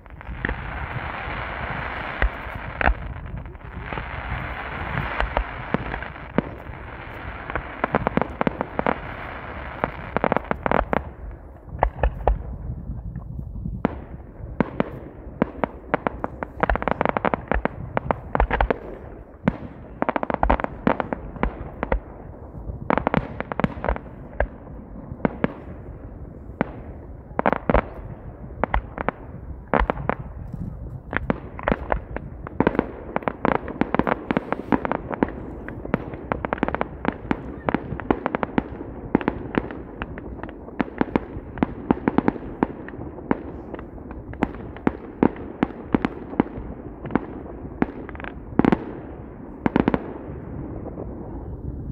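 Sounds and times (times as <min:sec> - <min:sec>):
fireworks popping and banging: 0:00.0 - 0:51.4.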